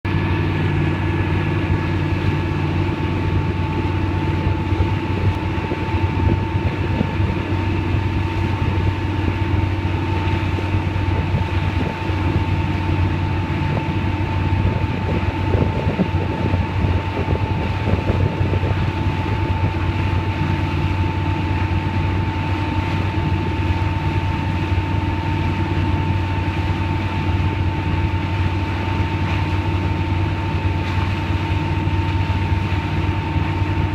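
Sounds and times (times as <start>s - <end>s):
boat engine running: 0.0s - 33.9s
thin steady whine: 0.1s - 33.9s.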